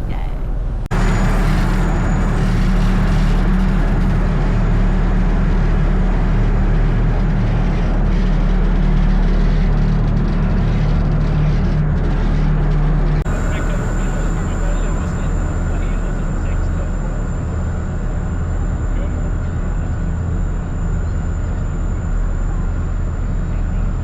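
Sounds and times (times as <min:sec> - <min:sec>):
engine running: 0:00.6 - 0:24.0.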